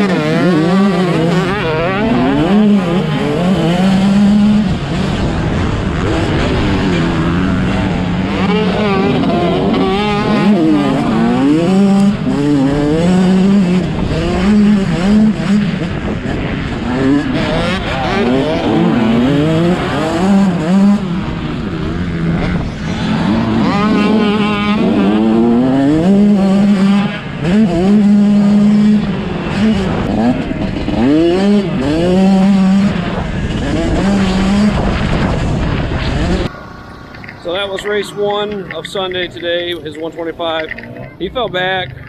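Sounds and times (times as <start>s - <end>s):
motocross bike engines revving: 0.0s - 42.0s.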